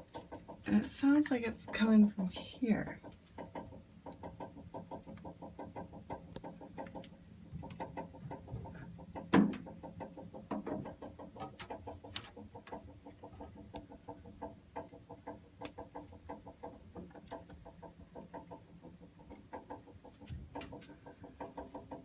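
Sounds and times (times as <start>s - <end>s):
water heater ticking: 0.0s - 22.0s.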